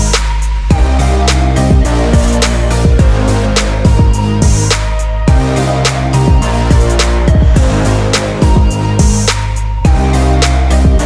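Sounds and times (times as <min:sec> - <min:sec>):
hip-hop beat with deep bass: 0:00.0 - 0:11.0.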